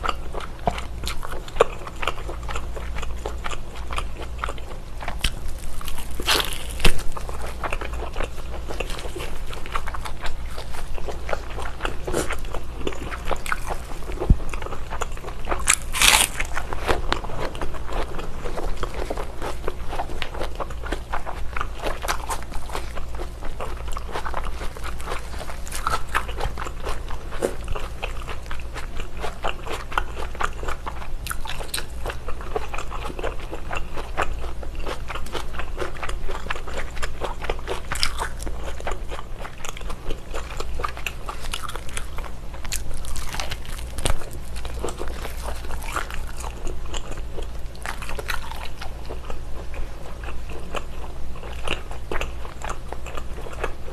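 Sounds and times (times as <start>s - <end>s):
person chewing crunchy bacon: 0.0s - 53.9s.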